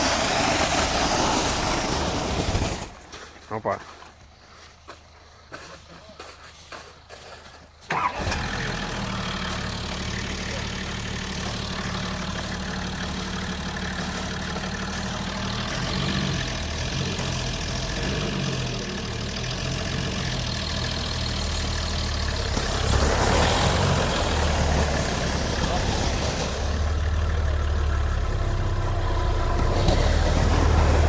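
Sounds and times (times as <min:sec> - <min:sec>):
vehicle engine running: 0:04.6 - 0:31.0.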